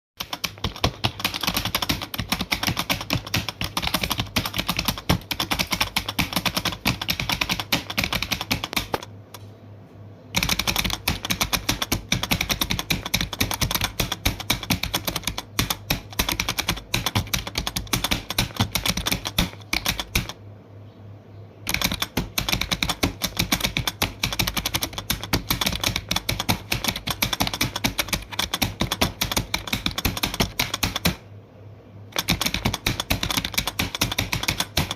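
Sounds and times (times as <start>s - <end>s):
typing on a keyboard: 0.2s - 9.5s, 10.3s - 20.4s, 21.7s - 31.2s, 32.1s - 34.9s.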